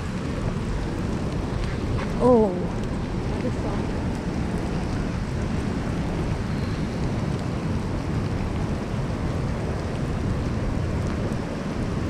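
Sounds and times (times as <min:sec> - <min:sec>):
raindrop ticks: 0:00.0 - 0:12.0
steady rain downpour: 0:00.0 - 0:12.0.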